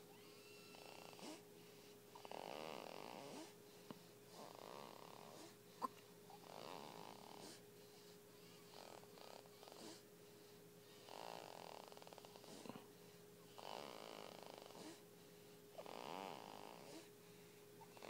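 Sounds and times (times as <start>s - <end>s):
baby snoring quietly: 0.0s - 15.1s, 15.7s - 17.2s, 17.8s - 18.0s.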